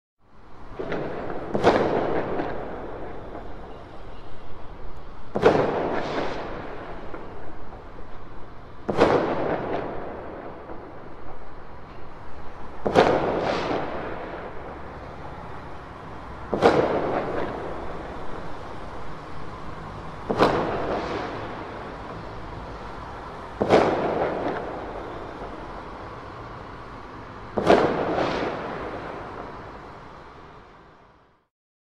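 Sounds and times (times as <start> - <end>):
distant fireworks bangs: 0.6 - 31.2
echoing firework report: 0.6 - 31.5.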